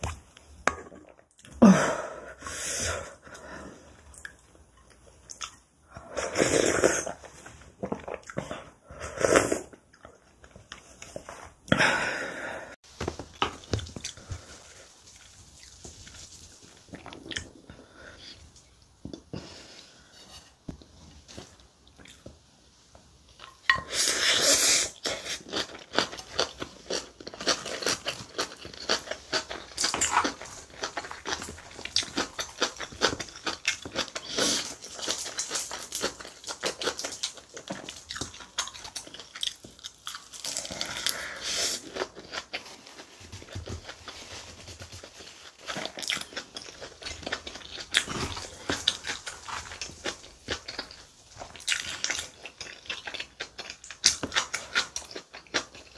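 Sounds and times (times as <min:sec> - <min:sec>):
close chewing of food: 0:03.0 - 0:11.8, 0:12.7 - 0:20.1, 0:23.3 - 0:55.9.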